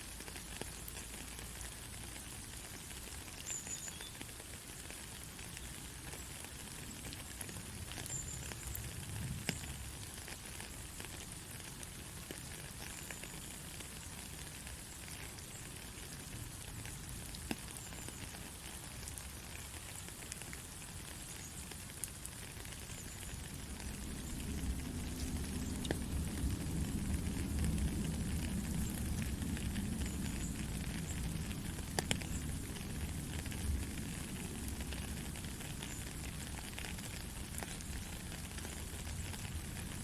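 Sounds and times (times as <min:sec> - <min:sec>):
gentle rain hiss: 0:00.0 - 0:40.0
raindrop ticks: 0:00.0 - 0:40.0.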